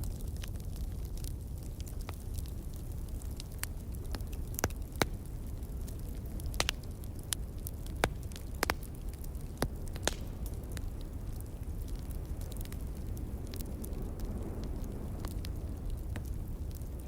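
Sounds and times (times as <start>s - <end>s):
fire popping: 0.0s - 17.0s
log fire crackling: 0.0s - 17.0s.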